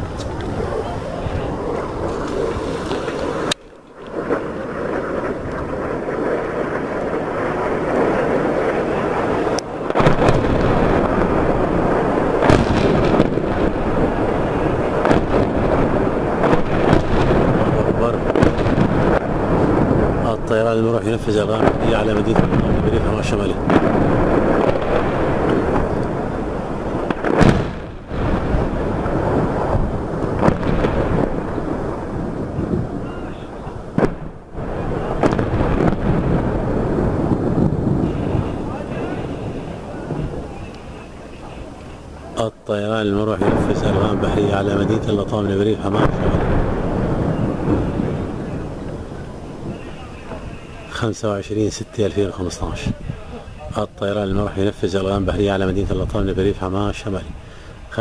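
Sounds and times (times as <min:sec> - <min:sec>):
outdoor rumbling noise: 0:00.0 - 0:58.0
wind buffeting microphone: 0:00.0 - 0:58.0.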